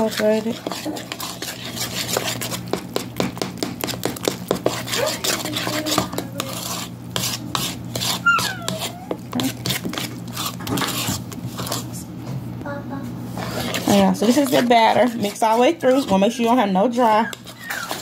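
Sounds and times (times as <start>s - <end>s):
spoon stirring batter in bowl: 0.0s - 12.3s, 13.3s - 18.0s.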